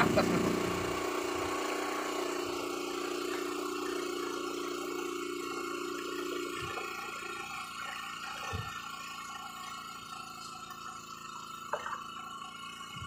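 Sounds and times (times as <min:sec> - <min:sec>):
motor idling hum: 0:00.0 - 0:13.0.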